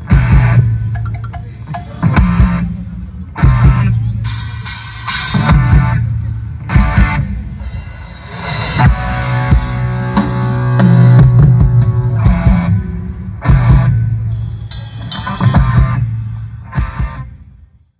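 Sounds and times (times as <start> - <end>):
sustained bass notes: 0.0 - 17.7
electric guitar: 2.0 - 17.4.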